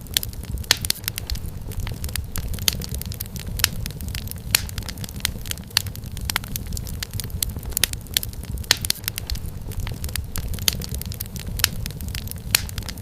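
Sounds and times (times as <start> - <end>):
low rumble of flames: 0.0 - 13.0
wood fire popping and snapping: 0.0 - 13.0.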